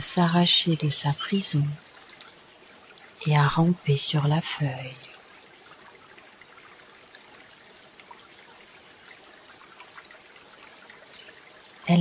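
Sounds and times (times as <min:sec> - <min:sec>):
trickle of flowing water: 0:00.0 - 0:12.0.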